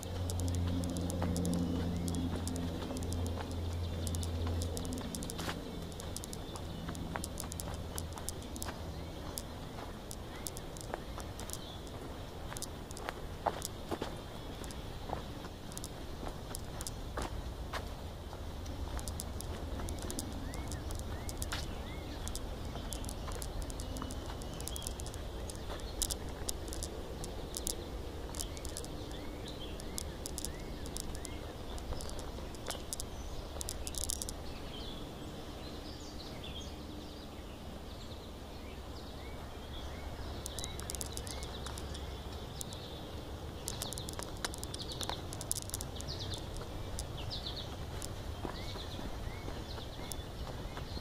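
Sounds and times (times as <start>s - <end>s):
footsteps on dirt trail: 0.0s - 35.0s, 39.8s - 51.0s
low steady rumble: 0.0s - 51.0s
small birds chirping: 0.0s - 51.0s.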